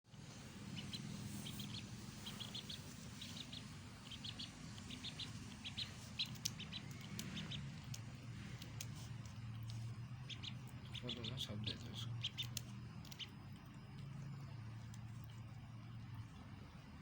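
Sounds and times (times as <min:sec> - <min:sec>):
duckling peeping: 0:00.1 - 0:13.8
low steady hum: 0:00.1 - 0:17.0.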